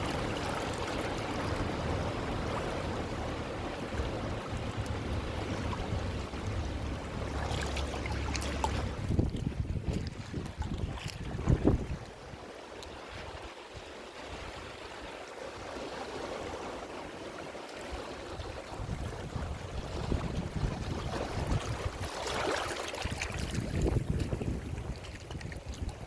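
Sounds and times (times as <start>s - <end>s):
wind rumble on microphone: 0.0s - 17.0s, 17.8s - 26.0s
ocean waves washing ashore: 0.0s - 26.0s.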